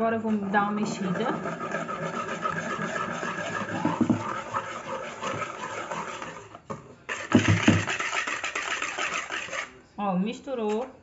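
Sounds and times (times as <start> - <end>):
whisk scraping plastic bowl: 0.0 - 9.8.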